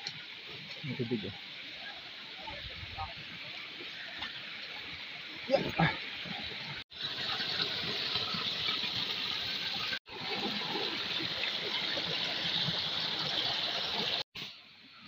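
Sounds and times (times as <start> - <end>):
stream splashing over rocks: 0.0 - 14.3.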